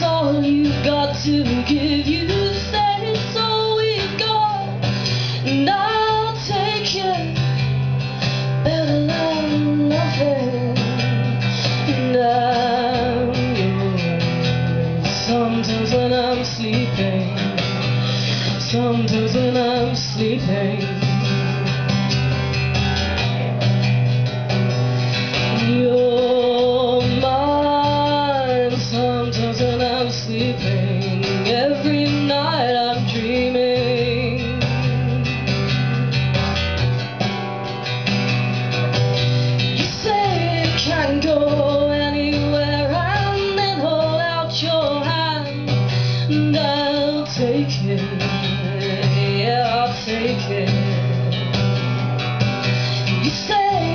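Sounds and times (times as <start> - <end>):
woman singing: 0.0 - 21.9, 25.3 - 35.8, 39.5 - 52.0, 52.6 - 53.9
acoustic guitar strumming: 0.0 - 53.9.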